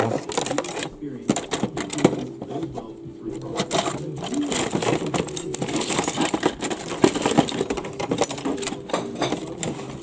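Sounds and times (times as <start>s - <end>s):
small plastic and metal parts clattering: 0.0s - 10.0s.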